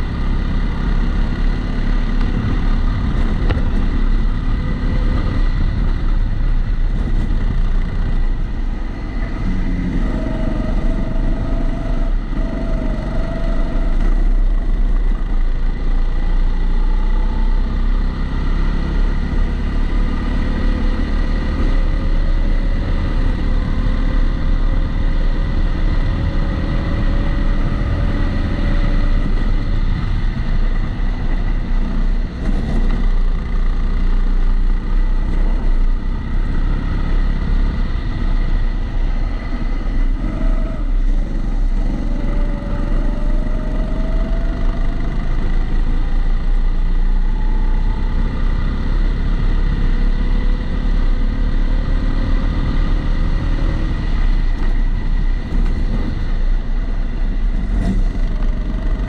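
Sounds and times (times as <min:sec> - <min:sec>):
constant high whine: 0:00.0 - 0:59.0
kart engine at speed: 0:00.0 - 0:59.0.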